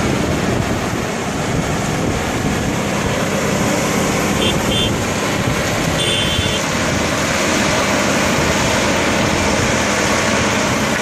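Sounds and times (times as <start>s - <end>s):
water truck engine and spray: 0.0s - 11.0s.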